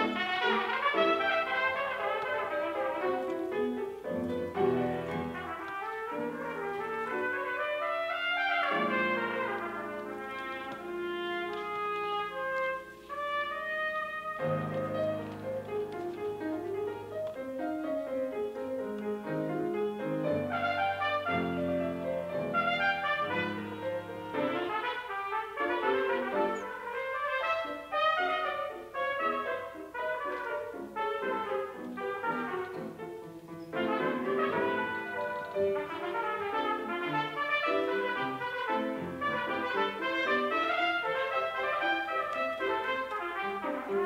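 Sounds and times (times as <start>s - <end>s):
piano accompaniment: 0.0s - 44.0s
trumpet melody: 0.0s - 44.0s.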